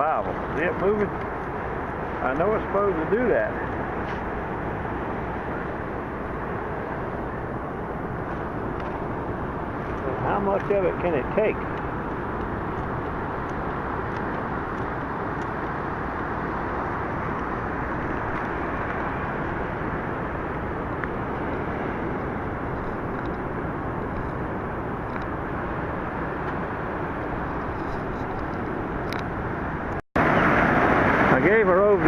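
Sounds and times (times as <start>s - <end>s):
ocean waves breaking: 0.0s - 32.0s.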